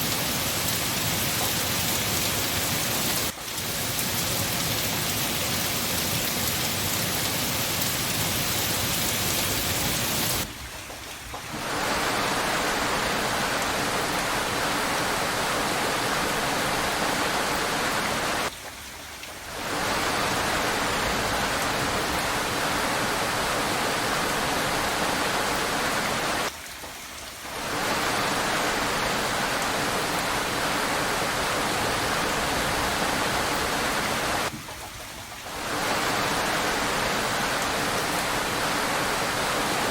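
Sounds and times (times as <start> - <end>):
heavy rain hissing: 0.0 - 10.5, 11.5 - 18.5, 19.5 - 26.5, 27.5 - 34.5, 35.5 - 39.9.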